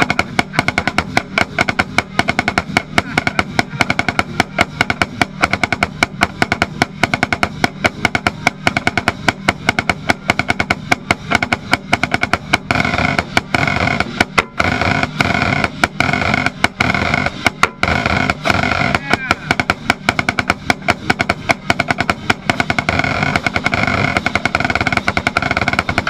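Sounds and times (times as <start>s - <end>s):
snare drum strikes and rolls: 0.0s - 26.0s.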